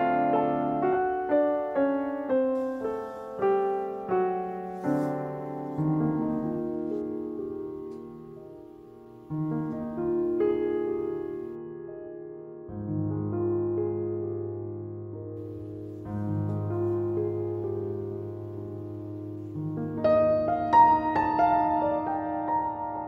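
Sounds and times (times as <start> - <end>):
gentle solo piano: 0.0 - 23.0.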